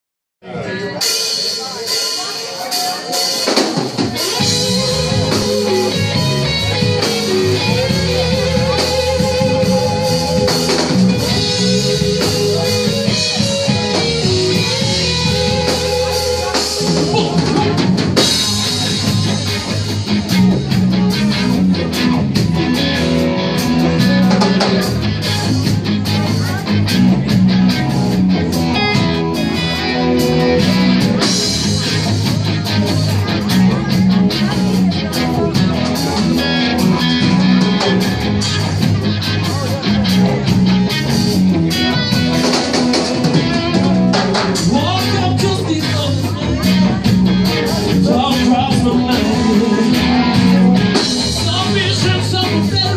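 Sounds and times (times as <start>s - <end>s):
electric guitars: 0.5s - 52.9s
drum kit beat: 1.0s - 52.9s.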